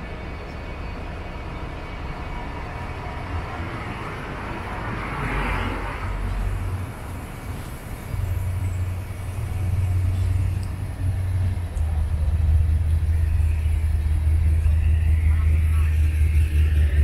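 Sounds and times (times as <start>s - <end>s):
low rumble of city traffic: 0.0s - 17.0s.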